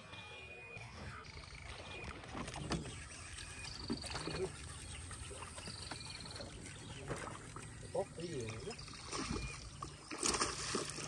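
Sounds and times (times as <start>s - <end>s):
faint water noise: 0.0s - 11.0s.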